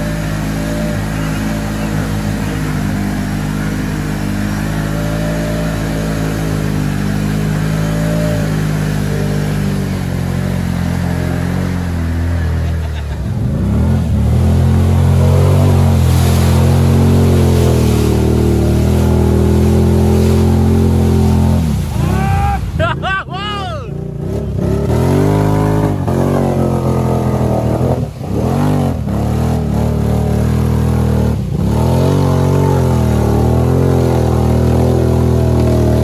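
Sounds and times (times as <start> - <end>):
atv engine revving: 0.0 - 23.2, 23.8 - 36.0.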